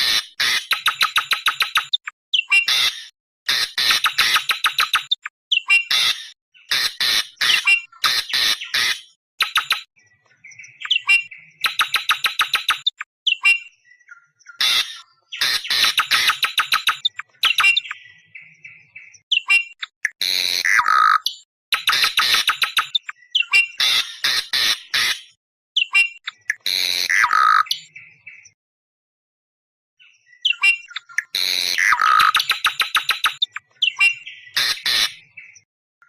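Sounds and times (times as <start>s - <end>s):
bird harsh chattering: 0.0s - 9.9s, 10.8s - 13.6s, 14.6s - 18.0s, 19.3s - 27.9s, 30.5s - 35.2s.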